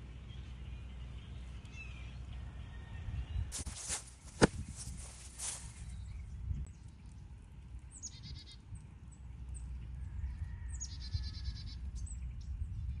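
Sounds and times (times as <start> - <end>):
low rumble of wind: 0.0 - 13.0
small birds trilling and chirping: 0.0 - 13.0.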